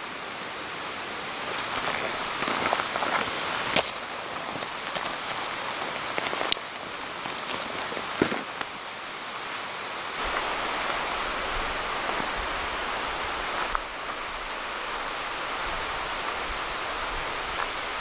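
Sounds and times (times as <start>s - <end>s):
rain: 0.0s - 18.0s
river water flowing: 0.0s - 18.0s.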